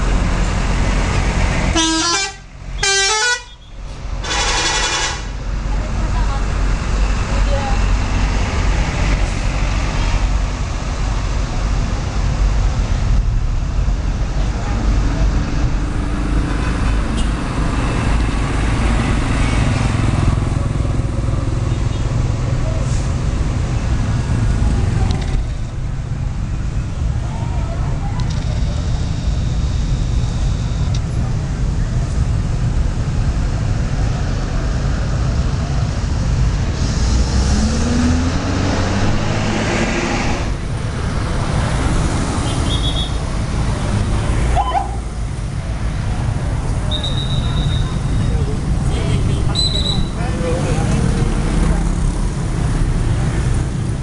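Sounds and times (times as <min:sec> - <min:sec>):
bus and motorcycle engines passing: 0:00.0 - 0:02.8, 0:03.4 - 0:54.0
road traffic rumble: 0:00.0 - 0:54.0.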